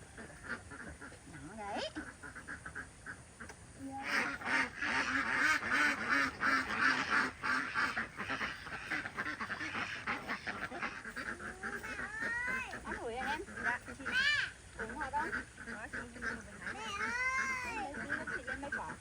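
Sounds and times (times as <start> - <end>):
flock of waterfowl calling: 0.0 - 19.0.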